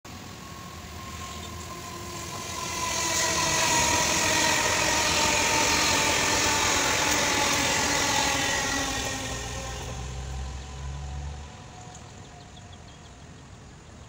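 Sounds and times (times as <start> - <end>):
train whine: 0.0 - 13.6
high-speed train passing: 0.0 - 14.0.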